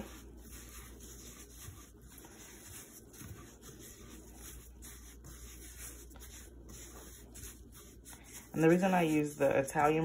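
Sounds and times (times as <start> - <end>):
breadcrumbs rustling in metal pan: 0.0 - 10.0.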